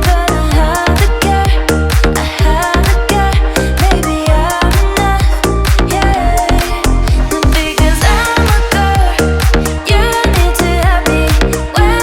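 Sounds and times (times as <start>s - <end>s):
upbeat dance music: 0.0s - 12.0s.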